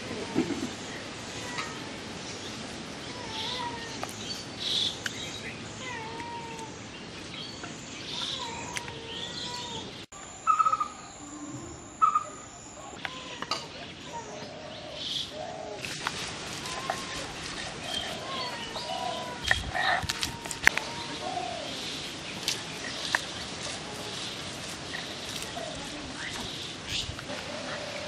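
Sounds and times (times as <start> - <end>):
steady outdoor hiss: 0.0 - 28.0
birds calling: 0.6 - 28.0.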